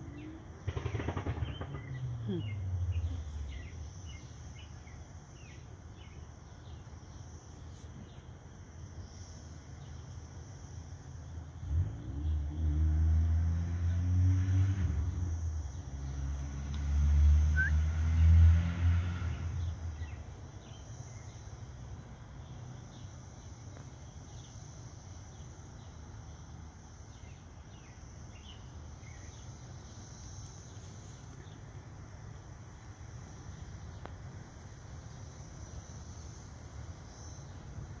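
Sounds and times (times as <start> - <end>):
high insect drone: 0.0 - 38.0.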